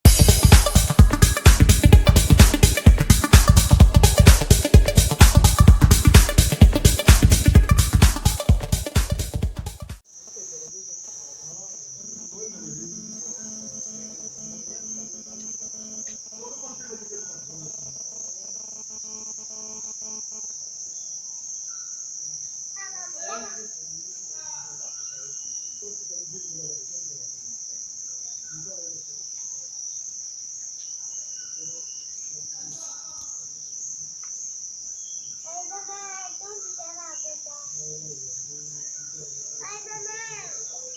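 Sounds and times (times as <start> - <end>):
insects trilling: 0.1 - 9.0, 10.0 - 40.9.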